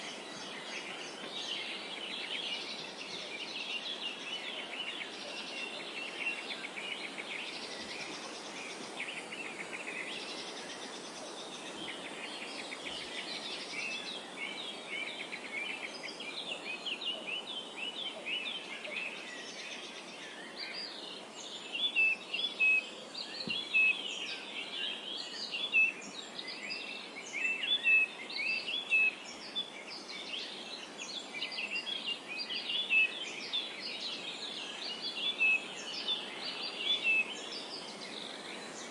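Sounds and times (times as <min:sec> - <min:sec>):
background hiss: 0:00.0 - 0:38.9
songbirds chirping and trilling: 0:00.0 - 0:38.9.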